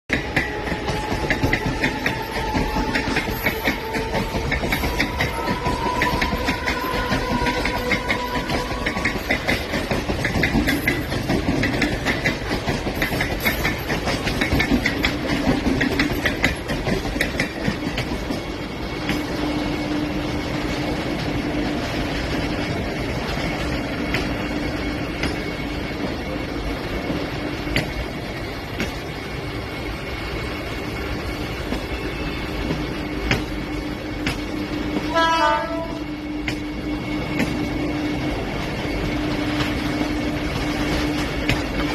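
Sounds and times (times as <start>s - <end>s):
train rumble with low hum: 0.1s - 41.9s
train wheels clicking over rails: 0.1s - 41.9s.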